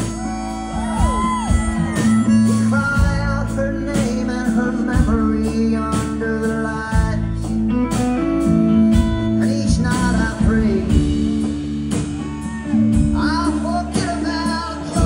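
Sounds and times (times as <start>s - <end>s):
bass notes: 0.0s - 15.0s
drums: 0.0s - 15.0s.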